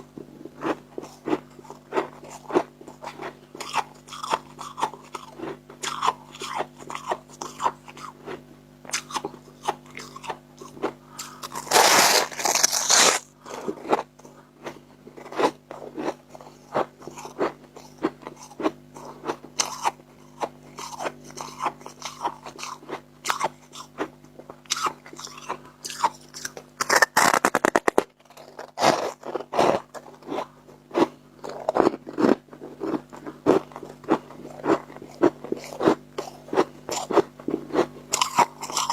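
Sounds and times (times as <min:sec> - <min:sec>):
chewing crunchy frost: 0:00.0 - 0:38.9
faint low hum: 0:00.0 - 0:38.9.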